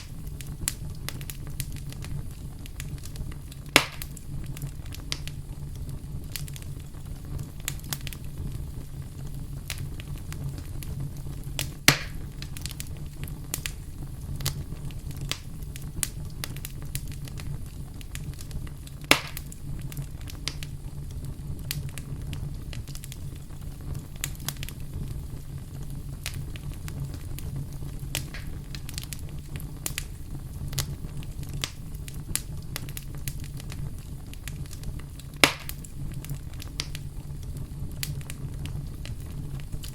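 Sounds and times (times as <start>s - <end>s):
campfire crackling: 0.0s - 39.9s
loud fire pops: 0.0s - 39.9s.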